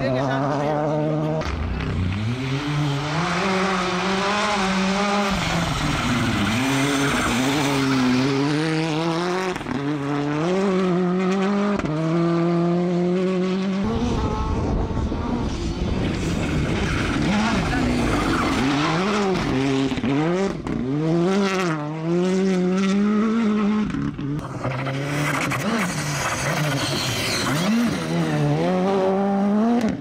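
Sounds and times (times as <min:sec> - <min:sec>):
rally car engines accelerating: 0:00.0 - 0:30.0.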